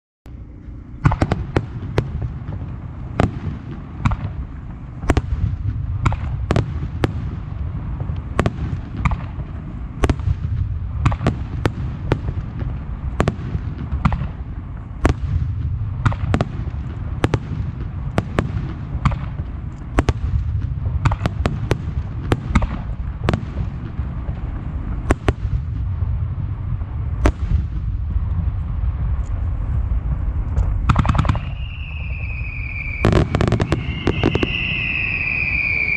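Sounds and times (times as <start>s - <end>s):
low rumble of detonations: 0.3s - 35.9s
fireworks bursting with sharp bangs: 0.5s - 35.9s.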